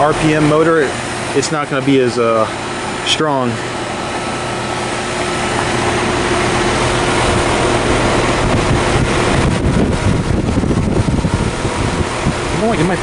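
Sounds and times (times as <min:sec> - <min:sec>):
fan air rushing on microphone: 0:00.0 - 0:13.0.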